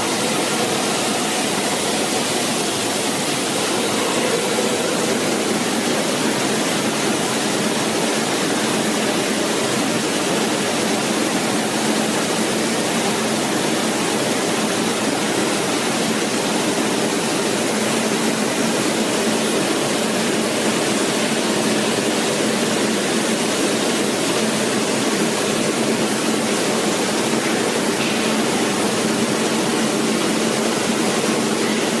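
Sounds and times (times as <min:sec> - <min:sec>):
water churning in a tank: 0:00.0 - 0:32.0.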